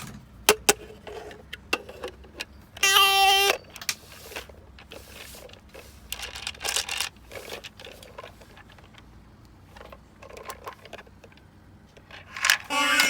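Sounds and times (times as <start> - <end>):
plastic toy pieces clicking and rattling: 0.5 - 9.1, 9.7 - 13.0.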